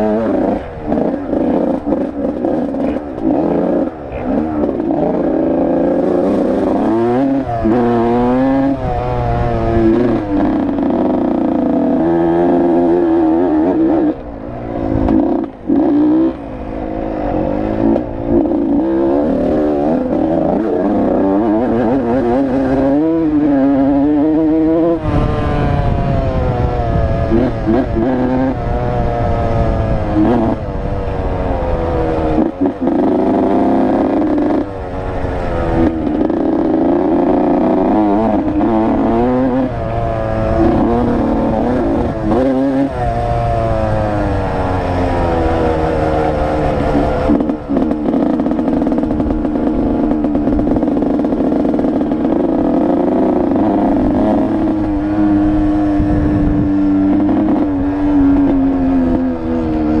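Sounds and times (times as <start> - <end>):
dirt bike engine: 0.0 - 60.0.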